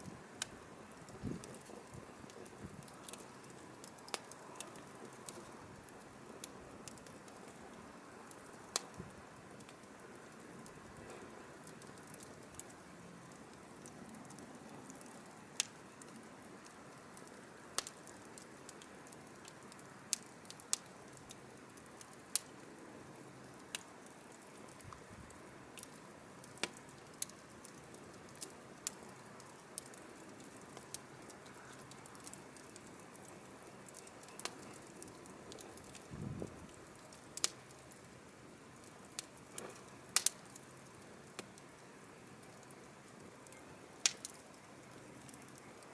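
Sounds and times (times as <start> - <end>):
firewood crackling and popping: 0.0 - 45.9
soft hiss of flames: 0.0 - 45.9.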